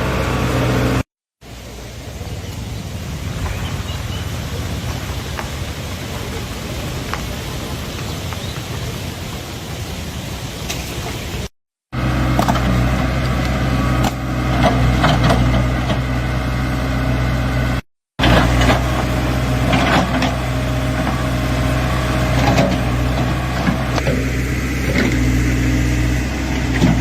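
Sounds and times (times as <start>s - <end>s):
vehicle engine running: 0.0s - 8.0s, 11.9s - 27.0s.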